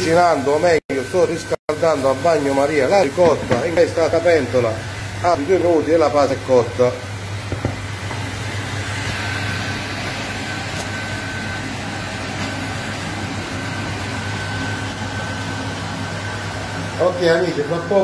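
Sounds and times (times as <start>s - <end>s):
pot boiling on stove: 0.0s - 18.0s.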